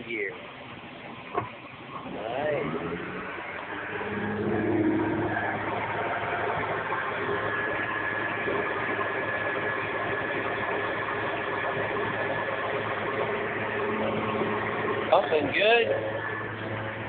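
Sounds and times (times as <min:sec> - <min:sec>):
boat engine running: 0:00.5 - 0:17.0.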